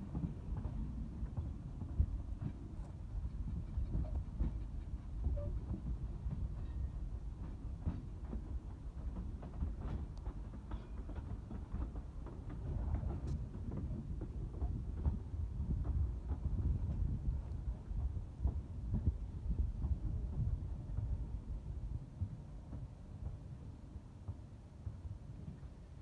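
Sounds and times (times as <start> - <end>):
railway carriage wheels rumbling: 0.0 - 26.0
clicks and knocks from track: 0.1 - 21.2.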